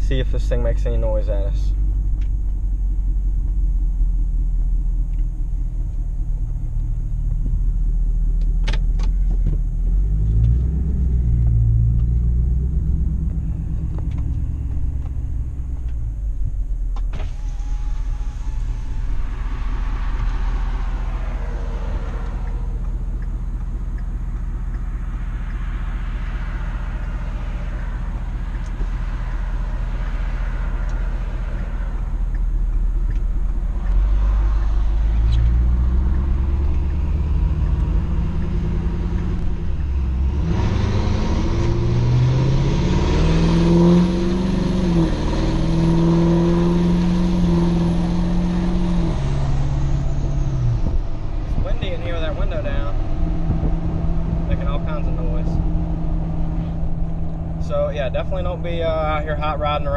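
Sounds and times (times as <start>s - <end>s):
road and wind noise: 0.0s - 59.9s
truck engine driving: 0.0s - 59.9s.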